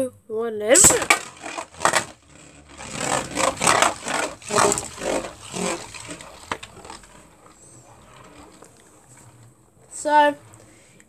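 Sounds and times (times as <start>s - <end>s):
spinning top whirring on plastic: 0.7s - 11.0s.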